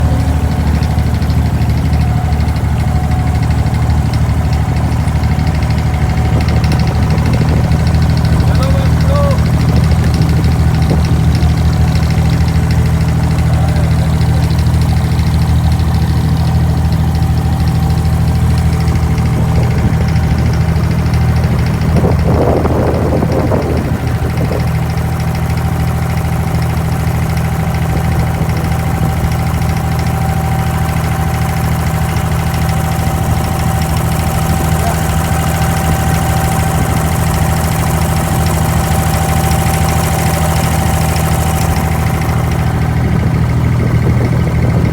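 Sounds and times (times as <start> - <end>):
boat diesel engine running: 0.0 - 44.9.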